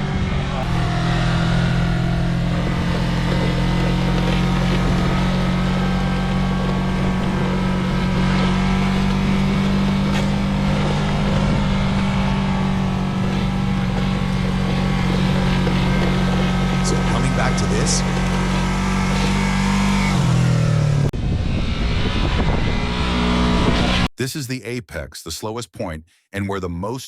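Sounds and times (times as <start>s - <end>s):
motorcycle engine steady throttle: 0.0s - 24.0s.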